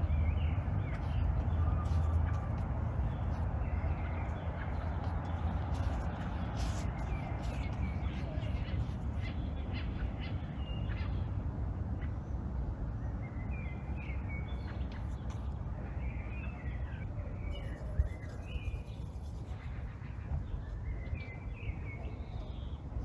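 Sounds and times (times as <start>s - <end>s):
low outdoor rumble: 0.0s - 23.0s
small songbirds chirping: 0.0s - 23.0s.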